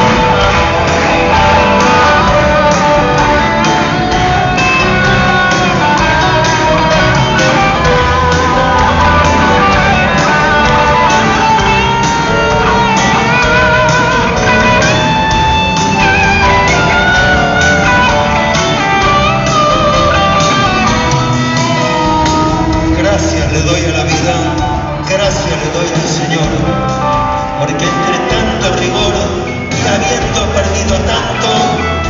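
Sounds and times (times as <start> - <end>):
rock band playing live: 0.0 - 32.0.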